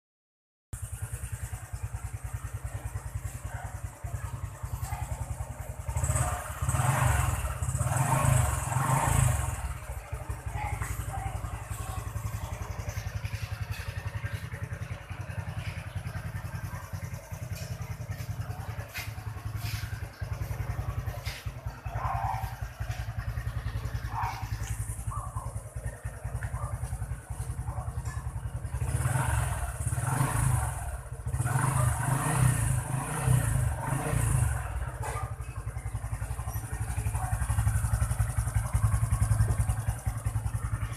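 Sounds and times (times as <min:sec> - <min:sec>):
two-stroke engine idling: 0:00.8 - 0:40.9.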